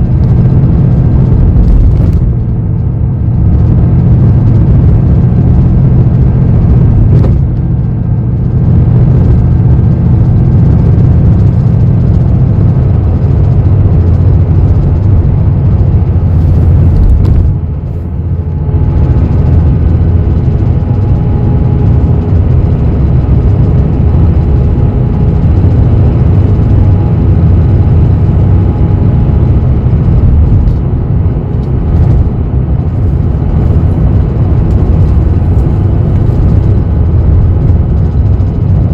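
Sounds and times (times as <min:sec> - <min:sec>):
bus engine rumble from inside: 0:00.0 - 0:38.9.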